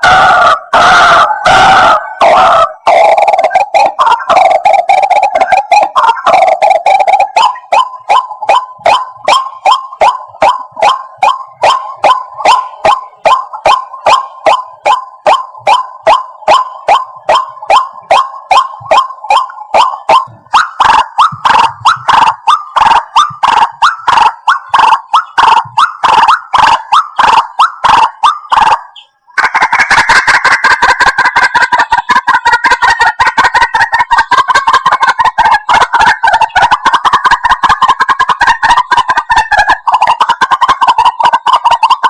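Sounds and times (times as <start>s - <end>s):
bird calling repeatedly: 0.0s - 42.0s.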